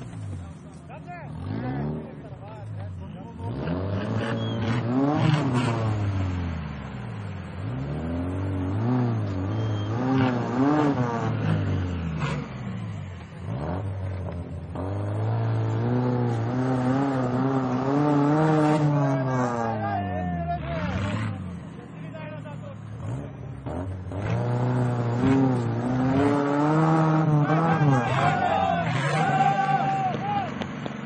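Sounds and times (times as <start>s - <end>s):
off-road engines revving: 0.0s - 31.0s.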